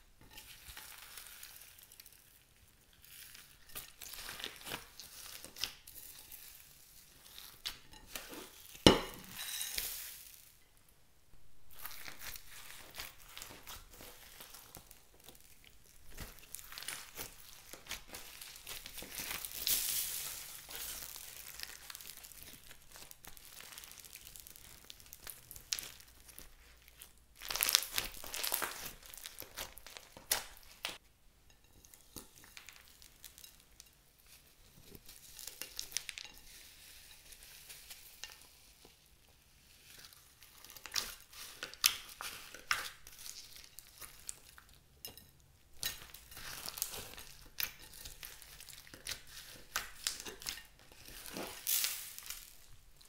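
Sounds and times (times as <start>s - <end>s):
slime squishing and crackling: 0.0s - 10.6s, 11.6s - 31.0s, 31.7s - 44.8s, 45.7s - 53.0s.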